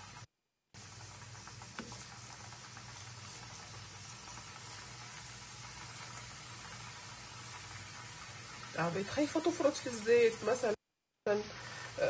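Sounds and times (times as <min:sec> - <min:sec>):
dough deep-frying in oil: 0:00.0 - 0:12.0.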